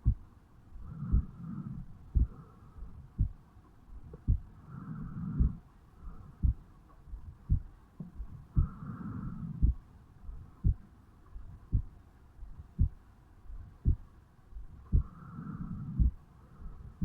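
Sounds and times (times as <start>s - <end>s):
heartbeat thumps: 0.0s - 17.0s.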